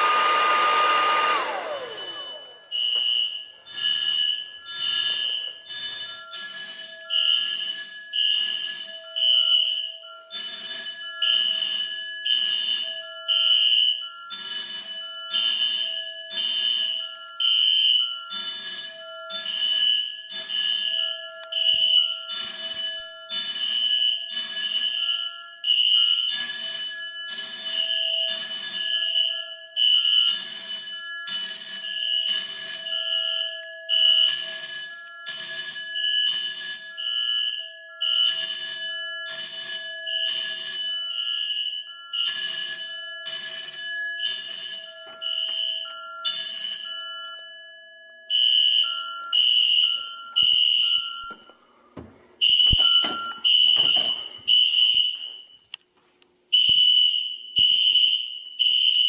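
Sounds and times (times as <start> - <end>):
electronic alarm horns: 0.0 - 47.1, 48.3 - 55.8
fire alarm bell ringing: 0.0 - 55.8, 56.5 - 59.0.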